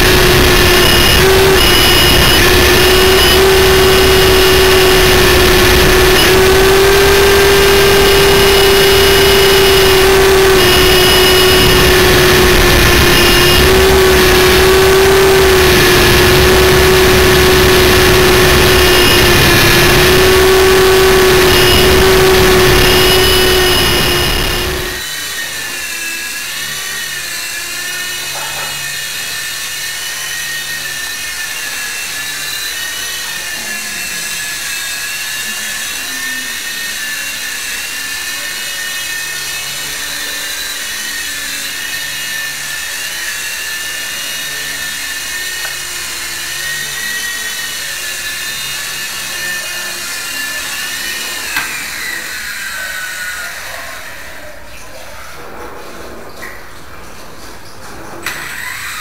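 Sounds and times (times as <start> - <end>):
toy helicopter rotor whine: 0.0 - 55.2, 58.2 - 59.0.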